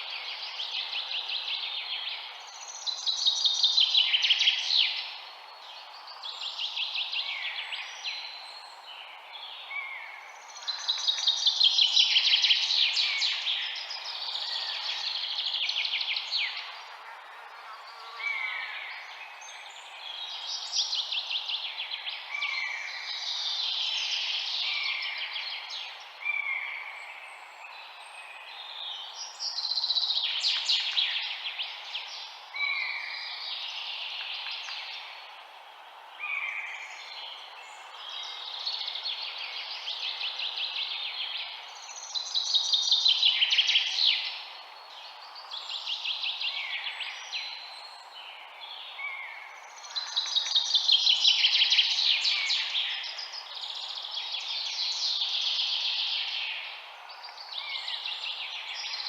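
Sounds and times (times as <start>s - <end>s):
songbirds singing: 0.0s - 59.0s
steady background hiss: 0.0s - 59.0s.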